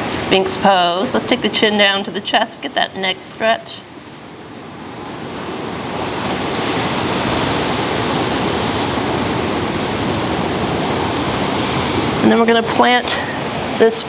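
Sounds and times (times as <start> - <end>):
ocean surf washing ashore: 0.0 - 14.0.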